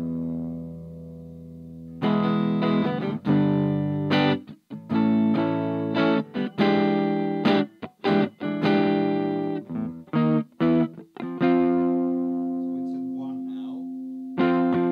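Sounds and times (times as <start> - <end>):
electric guitar chords: 0.0 - 14.9.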